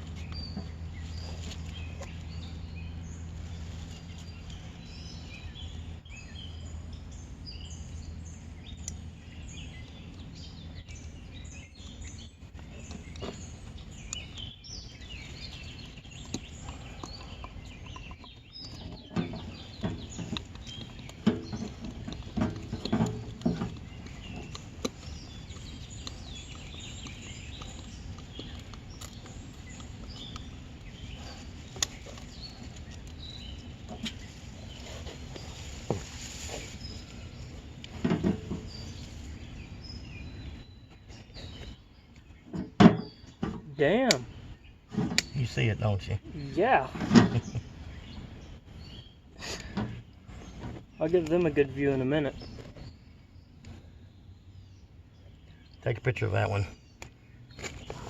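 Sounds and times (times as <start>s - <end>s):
birds chirping: 0.0s - 58.0s
steady low hum: 0.0s - 58.0s.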